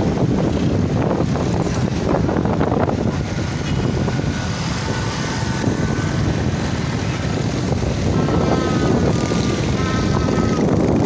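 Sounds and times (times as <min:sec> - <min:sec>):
motorcycle engine: 0:00.0 - 0:11.0
road noise: 0:00.0 - 0:11.0
wind rushing: 0:00.0 - 0:11.0.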